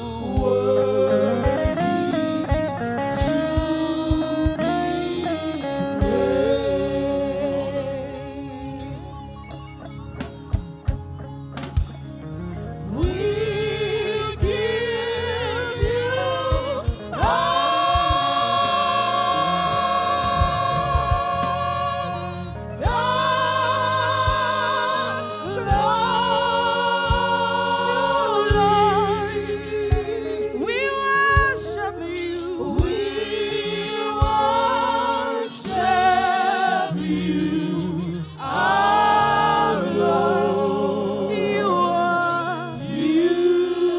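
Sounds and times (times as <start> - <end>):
gospel choir singing: 0.0 - 10.9, 12.2 - 43.9
instrumental accompaniment: 0.0 - 43.9.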